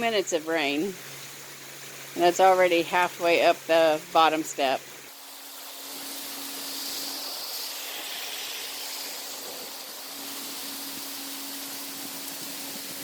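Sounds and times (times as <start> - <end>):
rainwater running off: 0.0 - 13.0
heavy rain pouring: 2.0 - 13.0.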